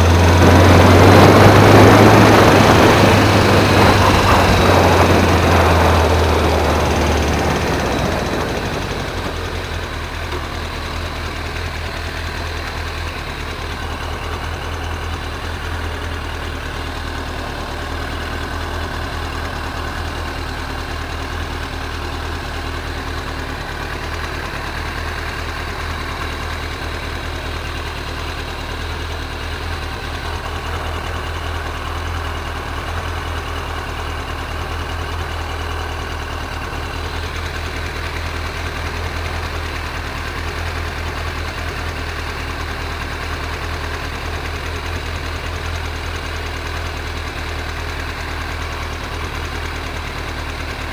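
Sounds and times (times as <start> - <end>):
engine running with low hum: 0.0 - 50.9.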